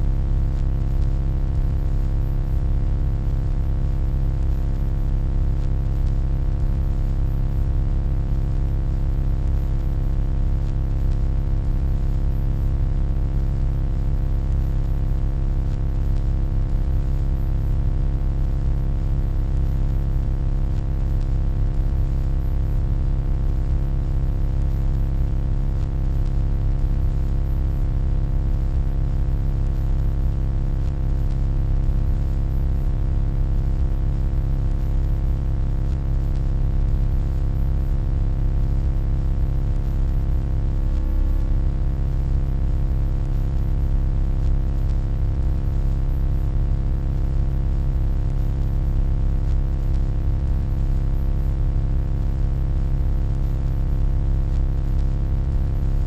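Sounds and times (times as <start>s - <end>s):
electronic hum: 0.0s - 46.9s.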